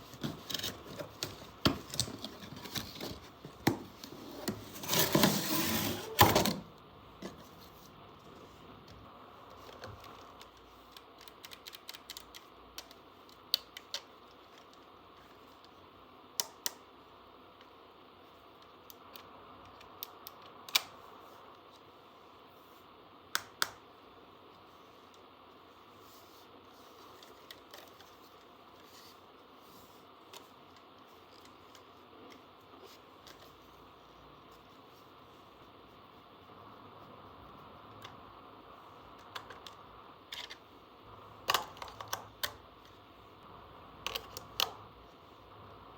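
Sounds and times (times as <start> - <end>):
faint steady hiss: 0.0 - 45.9.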